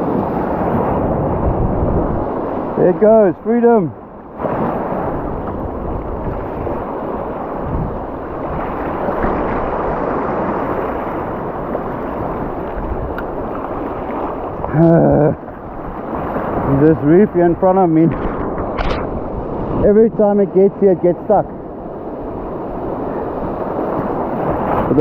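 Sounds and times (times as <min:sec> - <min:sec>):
surf washing over rocks: 0:00.0 - 0:25.0.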